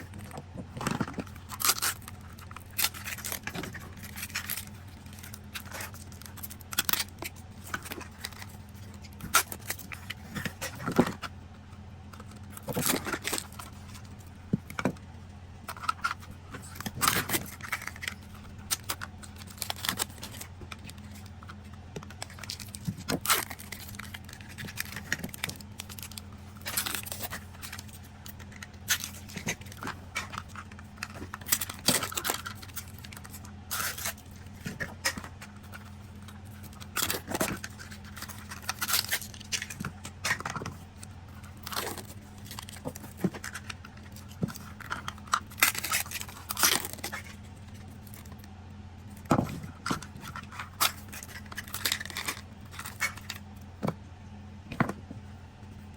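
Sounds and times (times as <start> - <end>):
wrapping tearing and crinkling: 0.0 - 53.7
steady low hum: 0.0 - 55.9.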